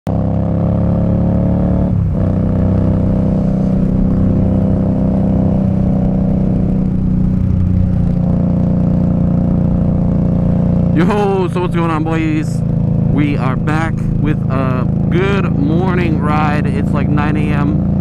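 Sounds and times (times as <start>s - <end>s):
motorcycle engine running: 0.1s - 18.0s.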